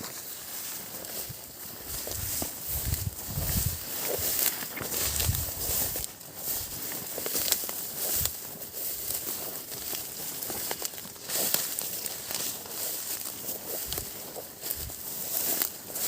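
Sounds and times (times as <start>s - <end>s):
crackling and rustling: 0.0s - 16.0s.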